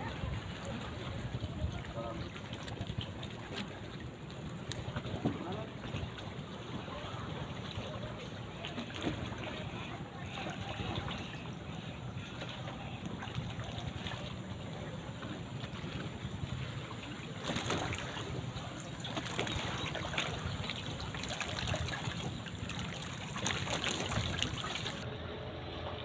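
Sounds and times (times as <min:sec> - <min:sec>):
water lapping against jetty: 0:00.0 - 0:25.1.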